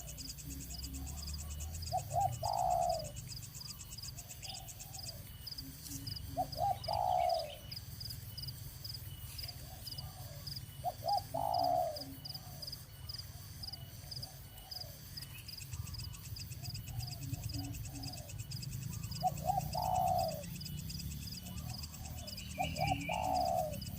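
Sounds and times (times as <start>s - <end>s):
dove cooing: 0.0s - 8.0s, 9.4s - 23.9s
pulsing insect chirr: 0.0s - 23.9s.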